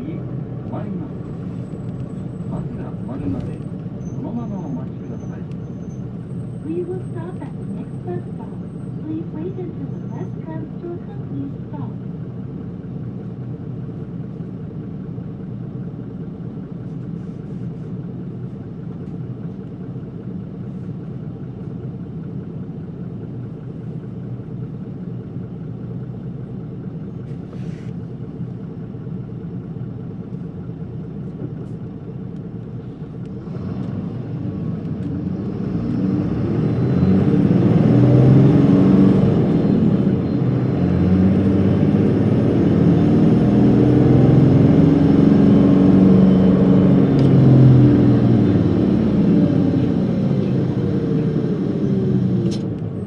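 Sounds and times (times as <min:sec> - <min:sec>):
bus diesel engine drone: 0:00.0 - 0:53.0.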